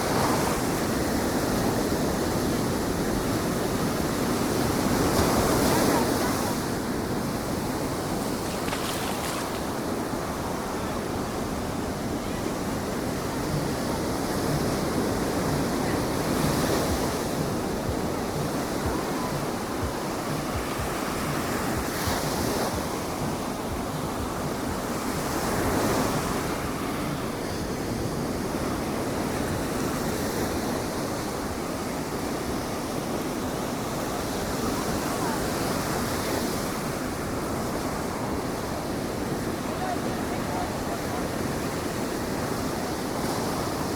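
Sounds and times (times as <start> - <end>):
waves breaking on a beach: 0.0 - 43.9
wind on microphone: 0.0 - 43.9.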